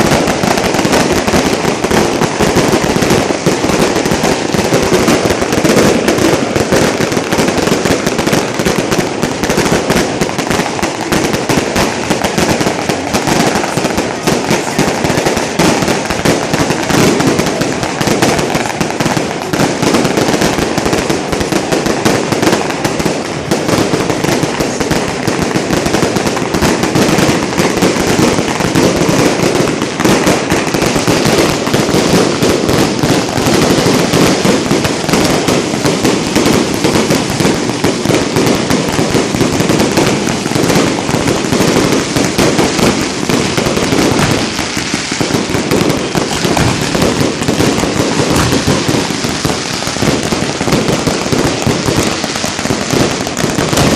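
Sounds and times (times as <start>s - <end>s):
fireworks crackling bangs: 0.0s - 53.9s.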